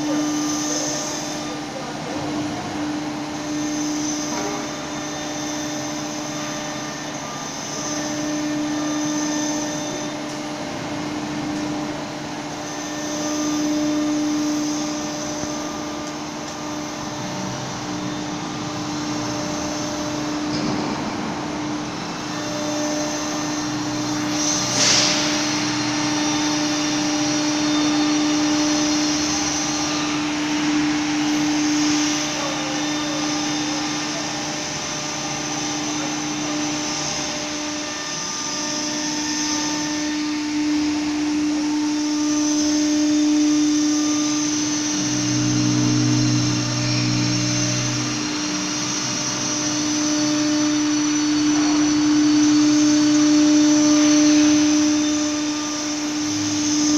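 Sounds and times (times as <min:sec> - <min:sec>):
router spindle whining: 0:00.0 - 0:56.9.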